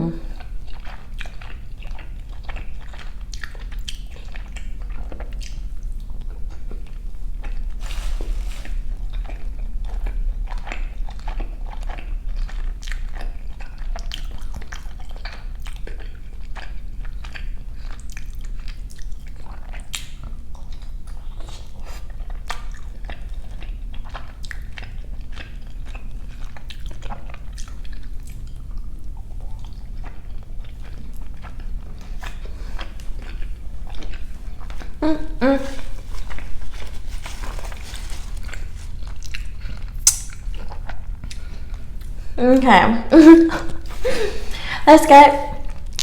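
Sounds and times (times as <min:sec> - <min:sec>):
chewing and mouth smacks: 0:00.3 - 0:07.8, 0:08.7 - 0:42.4, 0:45.6 - 0:46.0.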